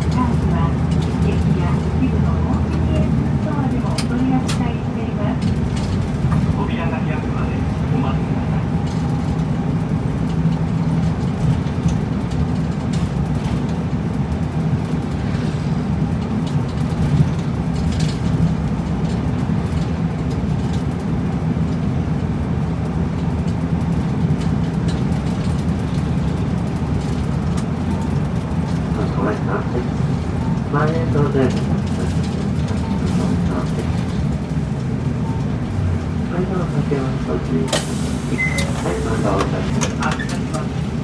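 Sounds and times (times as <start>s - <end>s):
bus diesel engine idling: 0.0s - 41.0s.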